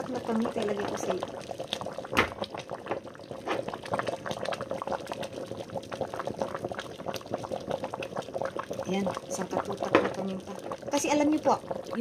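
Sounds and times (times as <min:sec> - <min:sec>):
porridge bubbling in a pot: 0:00.0 - 0:12.0.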